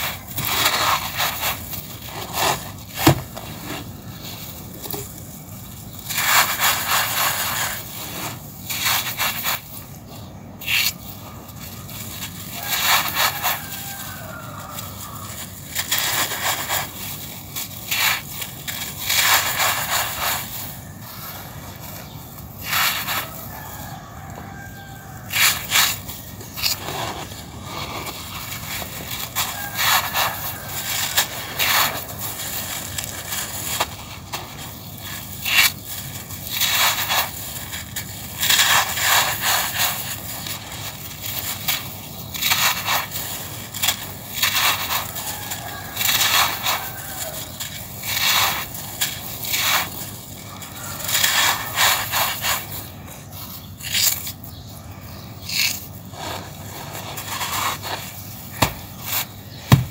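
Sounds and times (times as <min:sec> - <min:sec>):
sand clumps crunching by hand: 0:00.0 - 0:59.9
sand grains spilling: 0:00.0 - 0:59.9.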